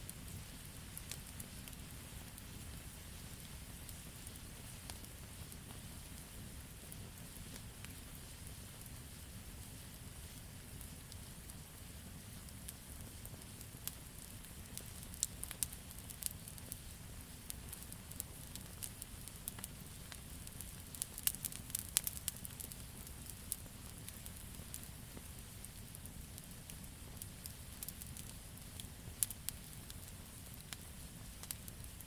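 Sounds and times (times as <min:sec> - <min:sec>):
campfire crackling and popping: 0:00.1 - 0:32.0.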